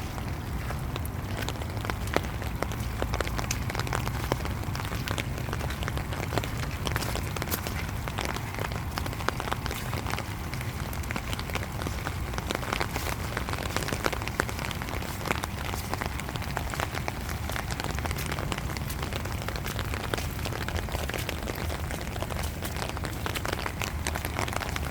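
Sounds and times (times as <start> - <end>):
low rain rumble: 0.0 - 24.9
raindrops hitting a surface: 0.0 - 24.9.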